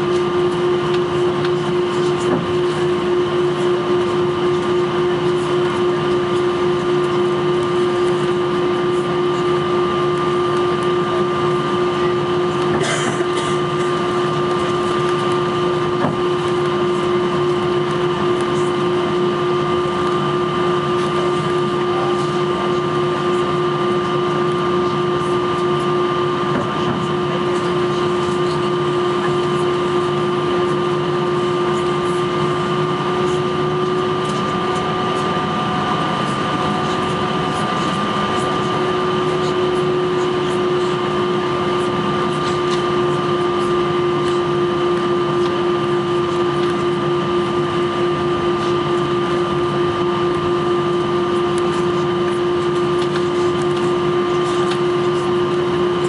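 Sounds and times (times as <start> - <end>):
cabin air system rush: 0.0 - 56.0
jet engines at low thrust: 0.0 - 56.0
steady whining tones: 0.0 - 56.0.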